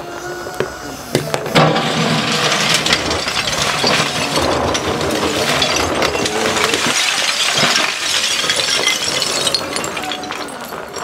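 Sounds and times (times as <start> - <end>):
tile fragments clattering and scraping: 1.6 - 11.0.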